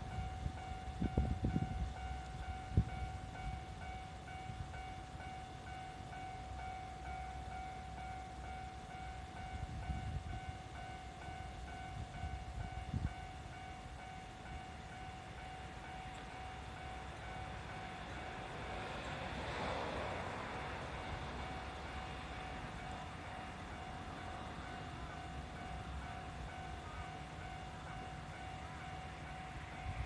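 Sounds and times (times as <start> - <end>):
level-crossing bell dinging: 0.0 - 19.4, 20.3 - 30.0
train rumbling: 0.0 - 30.0.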